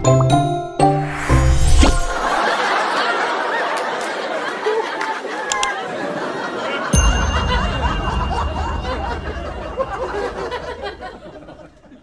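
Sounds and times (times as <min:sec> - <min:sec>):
audience chatter and laughter: 0:02.2 - 0:12.0.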